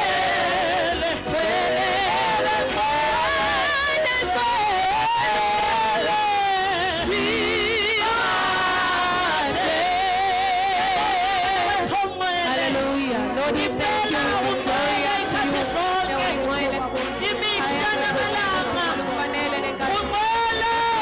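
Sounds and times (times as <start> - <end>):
backing voices singing: 0.0 - 21.0.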